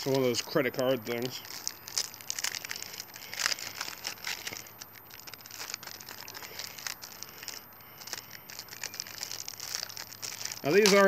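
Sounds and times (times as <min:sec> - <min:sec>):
packaging rustling and crackling: 0:00.0 - 0:11.0.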